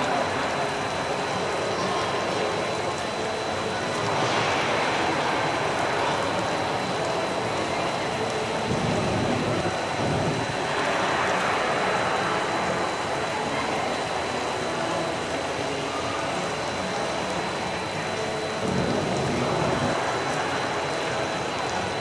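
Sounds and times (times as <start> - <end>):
rain falling onto pool: 0.0 - 22.0.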